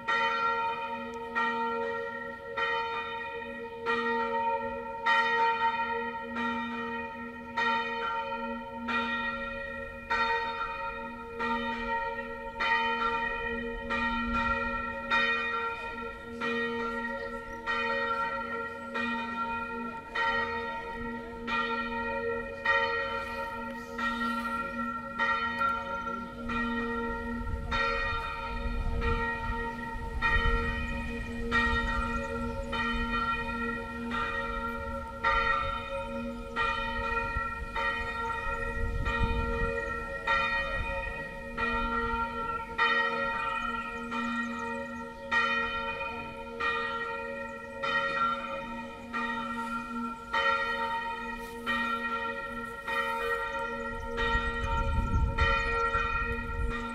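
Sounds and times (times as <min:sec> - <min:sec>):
church bell ringing: 0:00.0 - 0:56.9.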